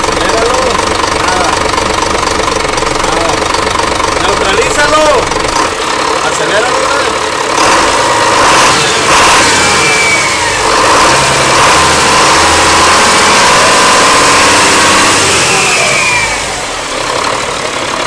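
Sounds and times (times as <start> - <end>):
diesel engine revving loudly: 0.0 - 18.0.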